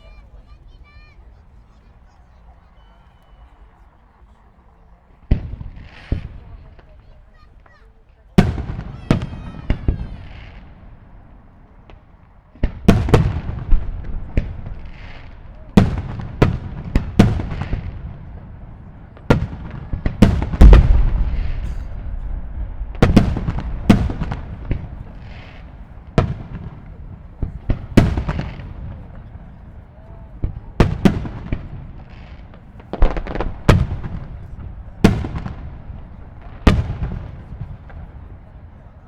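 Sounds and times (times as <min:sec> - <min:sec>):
fireworks bursting with echo: 0:05.1 - 0:39.0.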